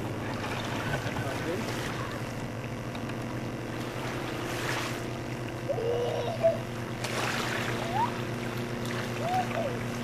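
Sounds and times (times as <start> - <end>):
motorboat engines droning: 0.0 - 10.0
water noise: 0.0 - 10.0.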